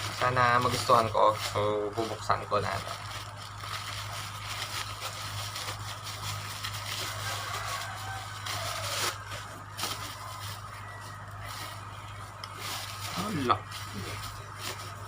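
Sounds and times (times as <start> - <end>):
plastic package tearing and crinkling: 0.0 - 15.0
steady low hum: 0.0 - 15.0.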